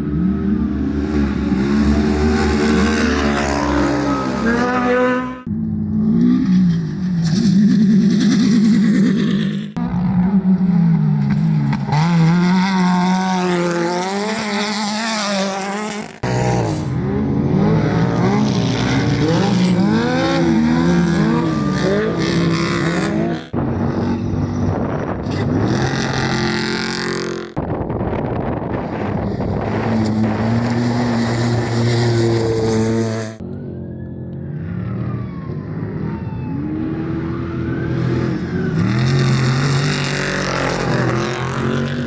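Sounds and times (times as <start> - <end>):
race car engines revving: 0.0 - 42.0.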